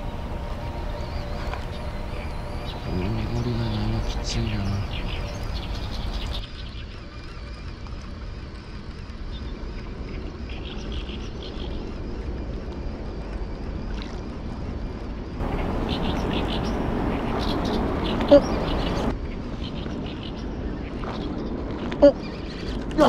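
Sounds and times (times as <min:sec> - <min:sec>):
steady low rumble: 0:00.0 - 0:06.4, 0:08.5 - 0:23.0.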